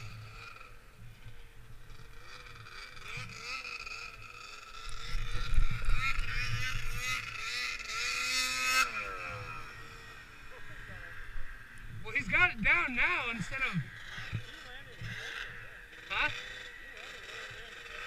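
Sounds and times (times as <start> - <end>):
snowmobile engine idling: 0.0 - 18.0
snowmobile revving and passing: 0.0 - 18.0.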